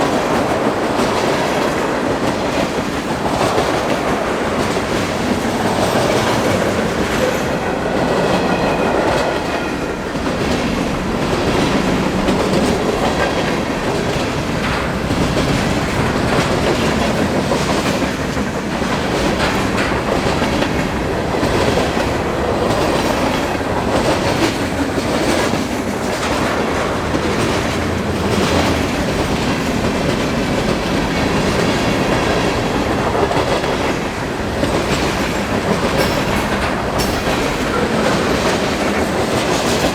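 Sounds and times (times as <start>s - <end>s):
train rumbling past: 0.0s - 39.9s
wheels clacking over rail joints: 0.0s - 39.9s.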